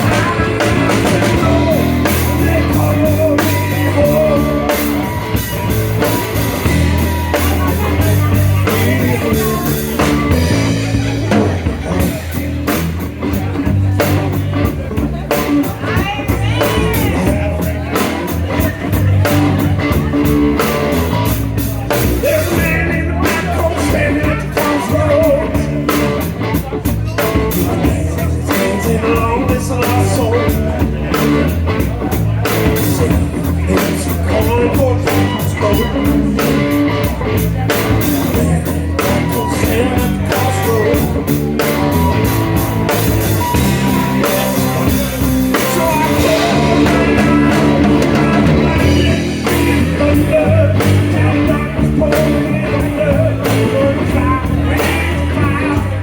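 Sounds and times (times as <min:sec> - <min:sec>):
electric guitar: 0:00.0 - 0:56.0
person singing: 0:00.0 - 0:56.0
steady drum beat: 0:00.0 - 0:56.0.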